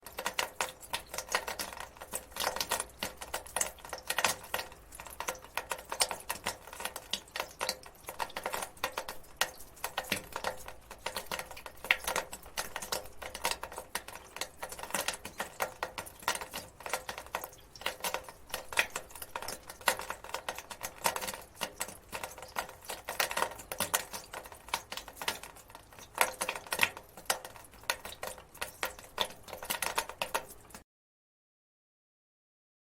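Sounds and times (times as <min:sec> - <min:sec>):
water dripping: 0:00.0 - 0:30.8.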